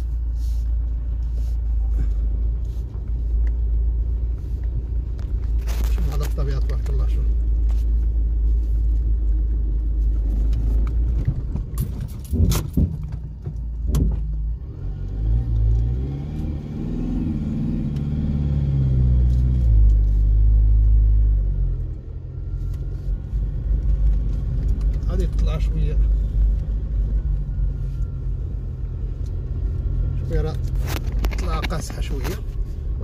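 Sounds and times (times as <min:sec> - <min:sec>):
car engine: 0:00.0 - 0:33.0
road noise: 0:00.0 - 0:33.0.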